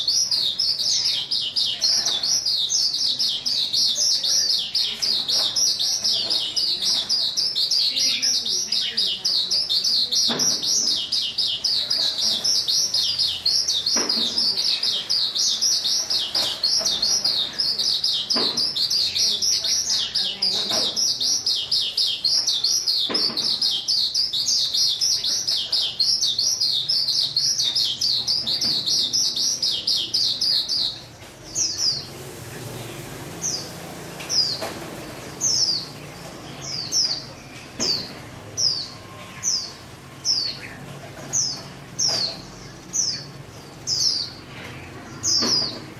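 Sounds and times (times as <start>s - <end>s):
songbird chirping rapidly: 0.0s - 45.9s.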